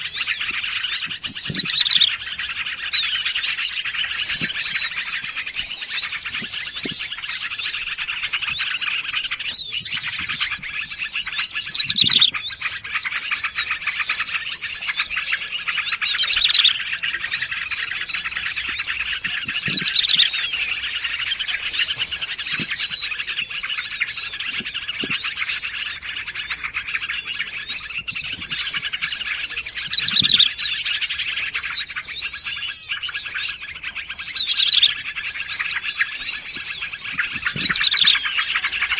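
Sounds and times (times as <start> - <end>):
fast high bird trill: 0.0 - 38.9
songbirds chorus: 0.0 - 38.9.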